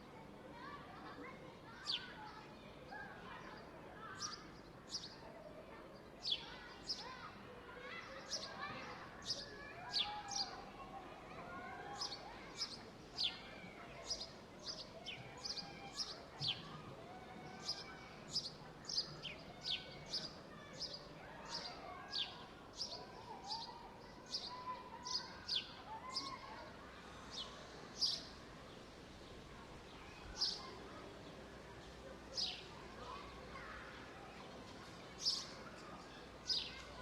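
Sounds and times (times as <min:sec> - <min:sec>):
murmur of distant voices: 0:00.0 - 0:37.0.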